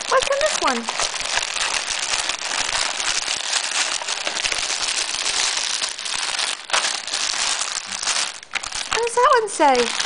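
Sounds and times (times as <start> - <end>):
cellophane crinkling: 0.0 - 10.0.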